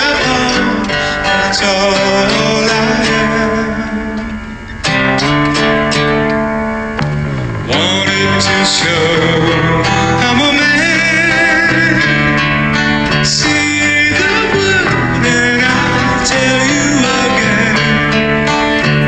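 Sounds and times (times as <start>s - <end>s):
person singing with vibrato: 0.0s - 6.1s, 7.4s - 19.0s
guitar: 0.0s - 19.0s.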